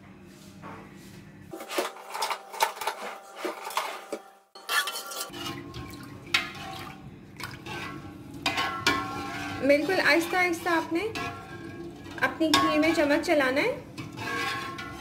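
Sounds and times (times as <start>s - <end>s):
metal whisk scraping a pot: 1.6s - 15.0s.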